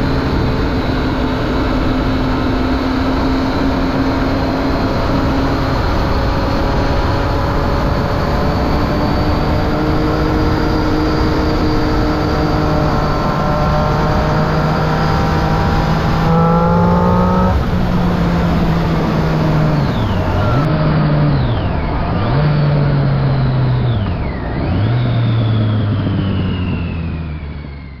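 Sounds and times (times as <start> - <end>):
wind noise: 0.0 - 27.1
motorcycle engine revving: 0.0 - 28.0.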